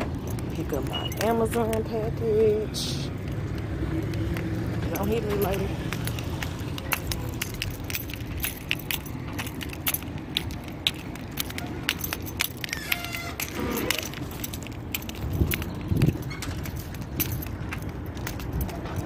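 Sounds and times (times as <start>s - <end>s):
keys jangling: 0.0s - 19.0s.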